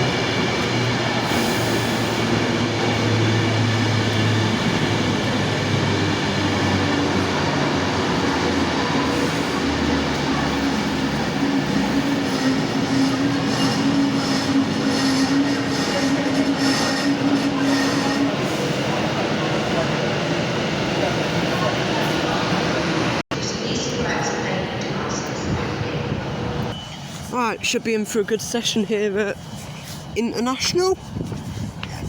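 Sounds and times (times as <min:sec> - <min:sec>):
electric train humming: 0:00.0 - 0:26.8
electric train whine: 0:00.0 - 0:30.2.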